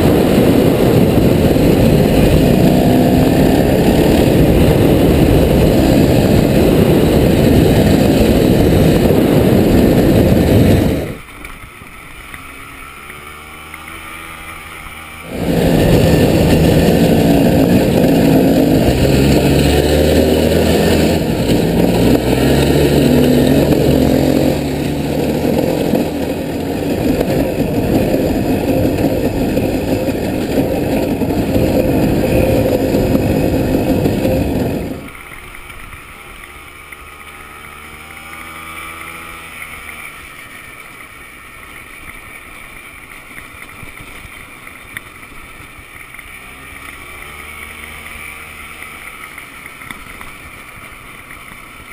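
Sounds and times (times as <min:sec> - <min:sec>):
off-road vehicle engine revving: 0:00.0 - 0:11.2, 0:12.1 - 0:40.3, 0:46.2 - 0:49.4.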